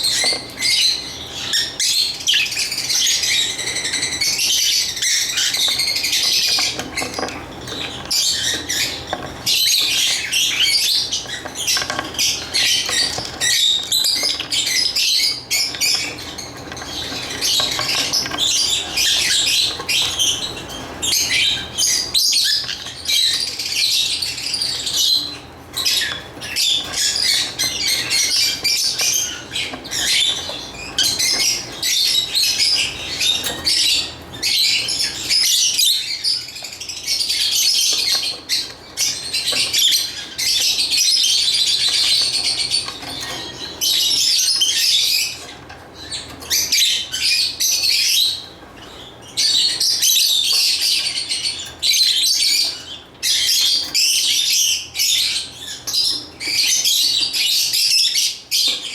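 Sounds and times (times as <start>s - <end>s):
lovebird chirping and chattering: 0.0s - 58.9s.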